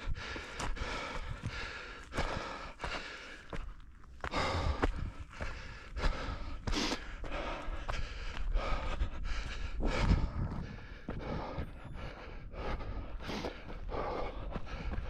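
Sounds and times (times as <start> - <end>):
runner panting: 0.0 - 15.0.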